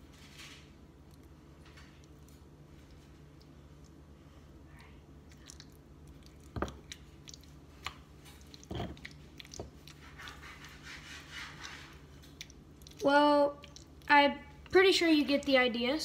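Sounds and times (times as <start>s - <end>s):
avocado squishing: 0.1s - 14.1s.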